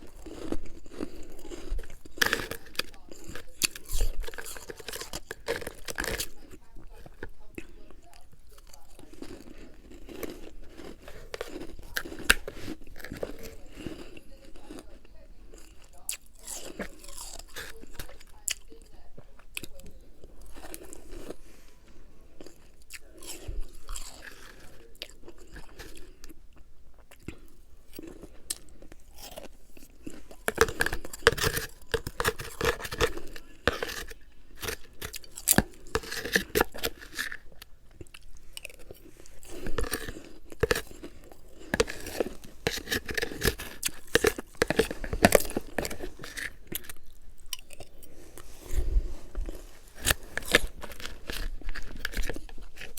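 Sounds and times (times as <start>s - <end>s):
person chewing crunchy frost: 0.0s - 52.9s.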